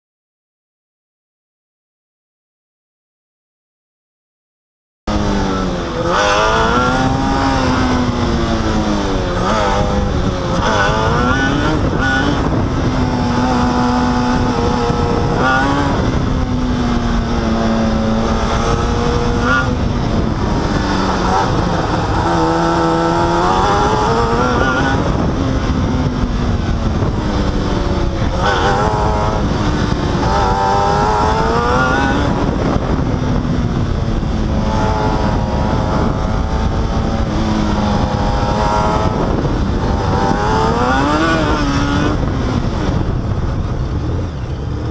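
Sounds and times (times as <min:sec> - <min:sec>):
racecar engine revving: 0:05.1 - 0:44.9.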